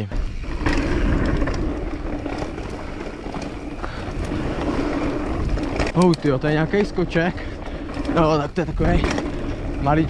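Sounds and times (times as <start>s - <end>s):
bike rattling and clicking: 0.0s - 10.0s
bike tyres rolling over dirt: 0.0s - 10.0s
wind buffeting microphone: 0.0s - 10.0s.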